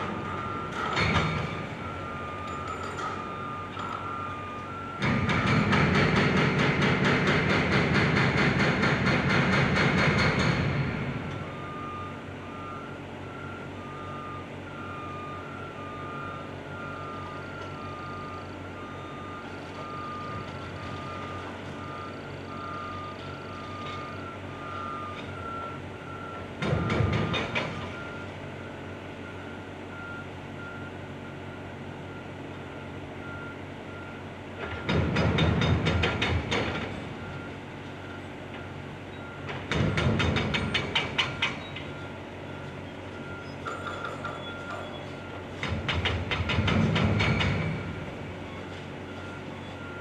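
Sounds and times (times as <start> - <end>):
backup alarms beeping: 0.0 - 7.3, 10.1 - 50.0
diesel engine rumble: 8.7 - 50.0.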